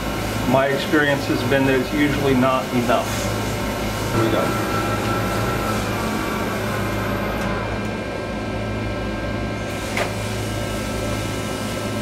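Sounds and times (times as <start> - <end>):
metal lathe motor hum: 0.0 - 12.0.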